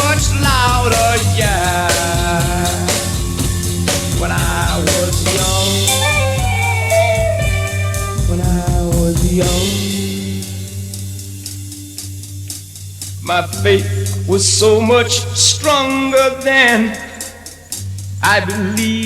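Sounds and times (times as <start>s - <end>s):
bass guitar: 0.0s - 19.0s
drum kit: 0.0s - 19.0s.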